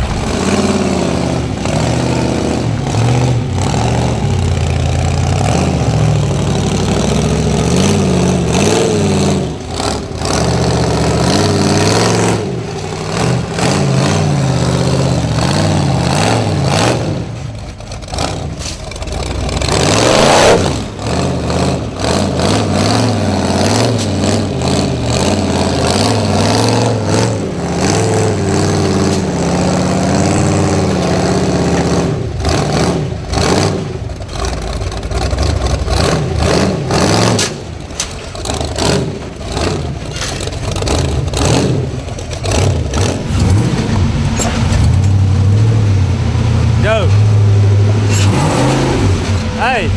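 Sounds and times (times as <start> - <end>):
buggy engine revving: 0.0 - 49.9.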